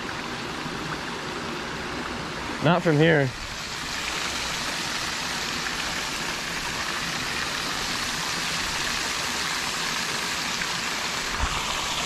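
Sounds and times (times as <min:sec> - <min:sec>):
water spilling over a weir: 0:00.0 - 0:12.0.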